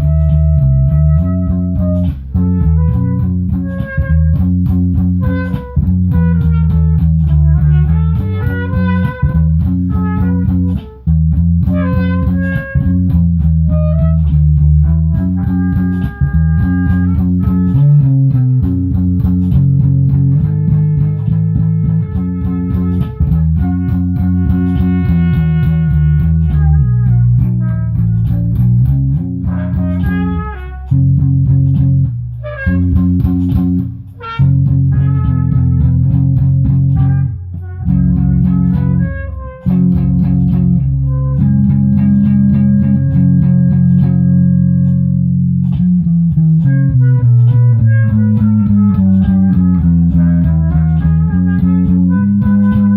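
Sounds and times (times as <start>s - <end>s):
bass guitar line: 0.0s - 52.9s
electric guitar playing: 0.0s - 52.9s.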